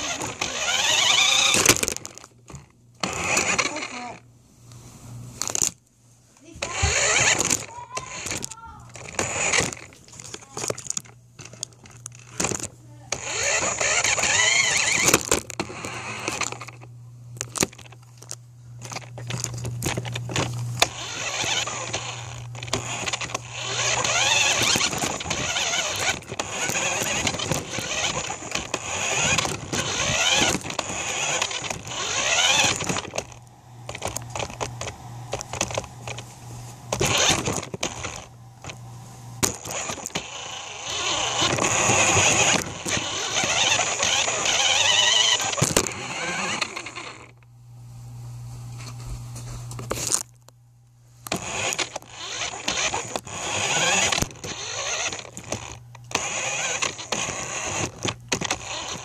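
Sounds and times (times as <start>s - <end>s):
toy car rattling on ground: 0.0s - 2.3s, 6.5s - 16.8s, 17.4s - 36.2s, 36.9s - 38.3s, 39.4s - 47.3s, 51.3s - 59.0s
toy car electric motor whining: 0.0s - 4.2s, 6.4s - 36.2s, 36.9s - 38.8s, 39.4s - 47.4s, 51.3s - 59.0s.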